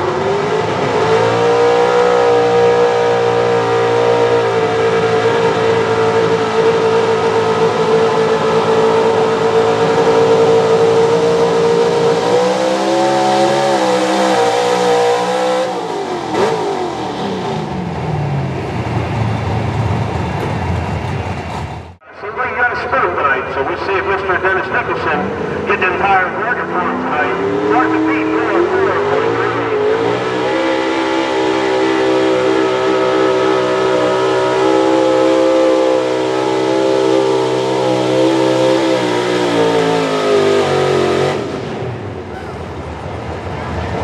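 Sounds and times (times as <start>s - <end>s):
truck engine at full throttle: 0.0s - 44.0s.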